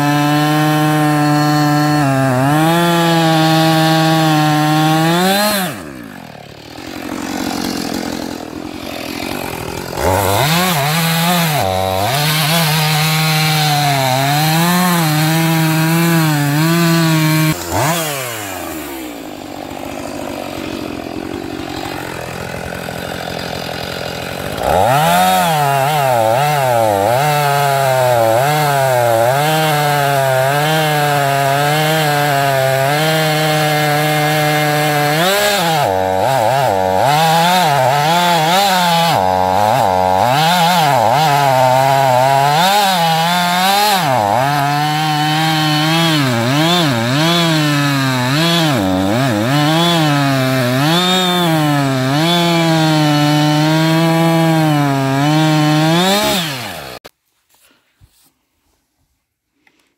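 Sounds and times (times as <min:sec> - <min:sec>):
chainsaw cutting through log: 0:00.0 - 0:57.1.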